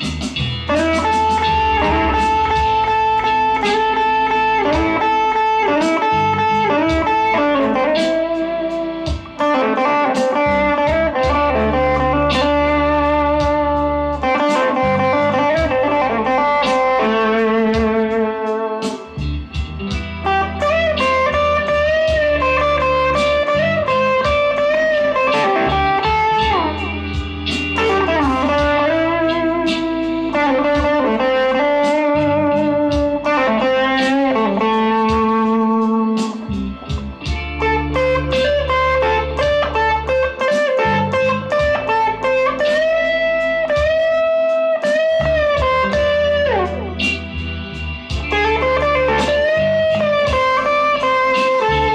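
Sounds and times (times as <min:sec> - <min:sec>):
electric guitar lead melody: 0:00.0 - 0:51.9
low steady accompaniment: 0:00.0 - 0:51.9.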